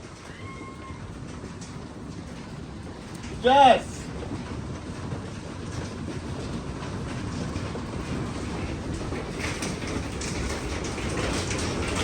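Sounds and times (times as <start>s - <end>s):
hail and heavy rain pelting: 0.0s - 12.0s.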